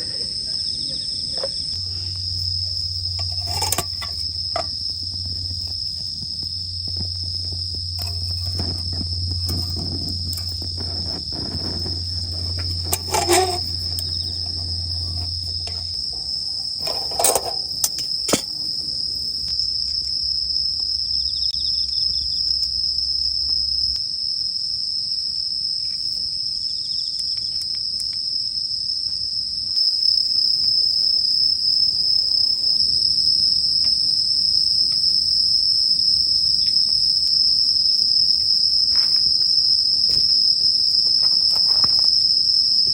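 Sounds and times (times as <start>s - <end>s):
insect chorus trilling: 0.0s - 42.9s.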